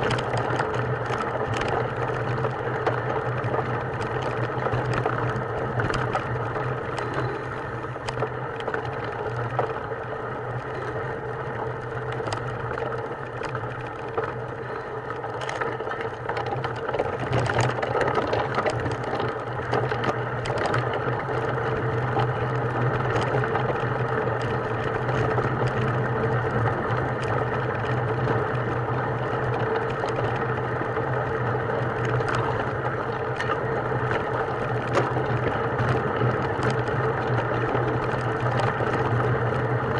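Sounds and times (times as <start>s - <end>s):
machine running hum: 0.0s - 39.9s.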